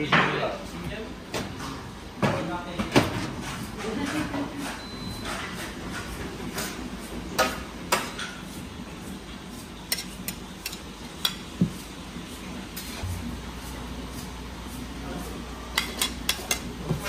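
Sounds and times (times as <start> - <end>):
low kitchen hum: 0.0 - 17.0.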